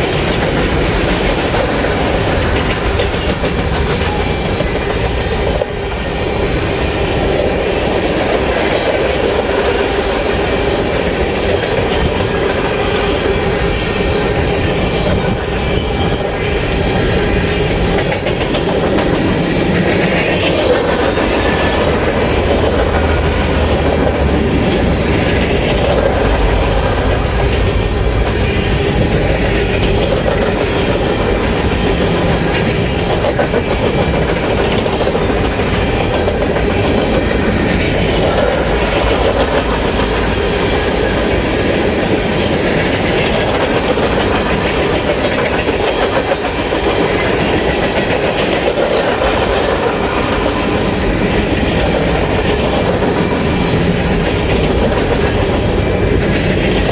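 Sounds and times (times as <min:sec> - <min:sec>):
train wheels clattering on rails: 0:00.0 - 0:56.9.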